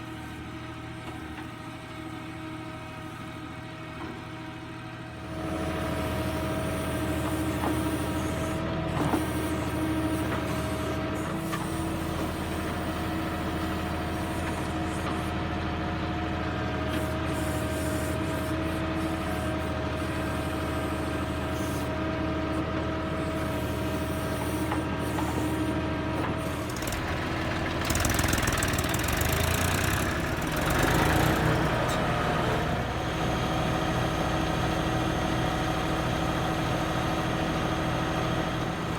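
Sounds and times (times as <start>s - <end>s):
backhoe loader machine noise: 0.0s - 38.9s
tractor diesel engine running: 4.5s - 38.9s.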